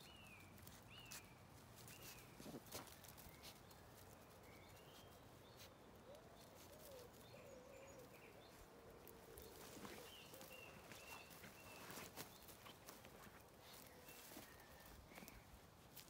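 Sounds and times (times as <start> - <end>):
distant birds chirping: 0.0 - 15.6.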